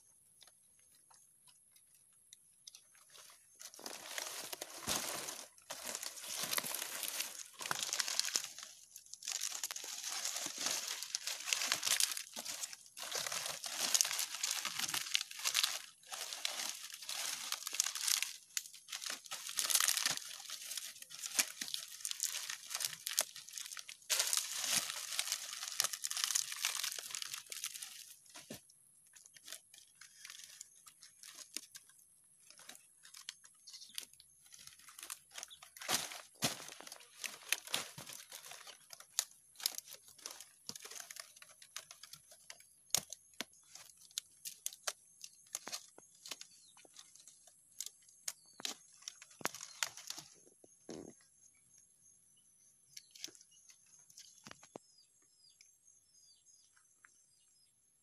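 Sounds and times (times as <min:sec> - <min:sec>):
palm fronds rustling and crackling: 0:00.4 - 0:51.3, 0:52.9 - 0:55.1.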